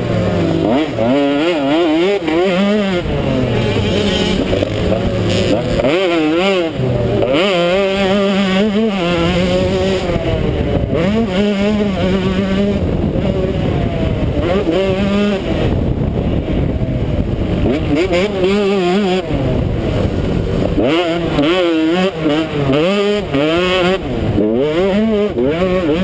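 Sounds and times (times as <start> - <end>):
two-stroke motorcycle engine revving: 0.0 - 26.0.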